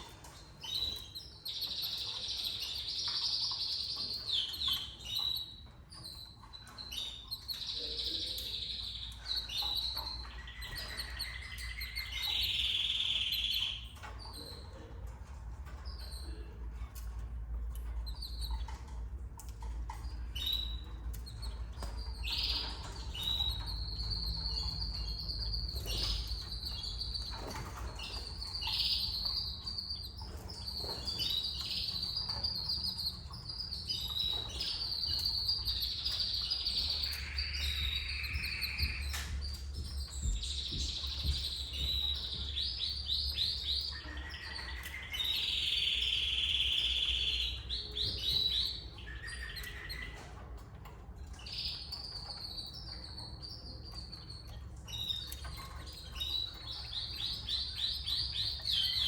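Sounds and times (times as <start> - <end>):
canaries chirping and trilling: 0.0 - 59.0.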